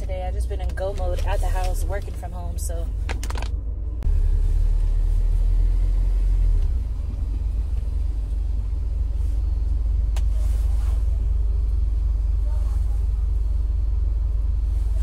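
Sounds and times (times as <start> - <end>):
car interior rumble: 0.0 - 15.0.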